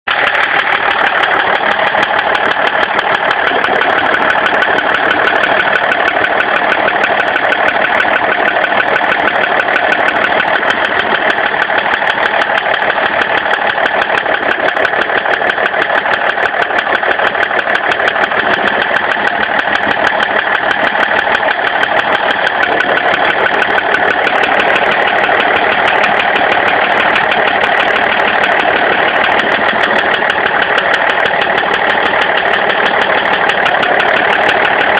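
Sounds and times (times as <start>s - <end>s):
diesel engine with rapid knock: 0.0s - 34.9s.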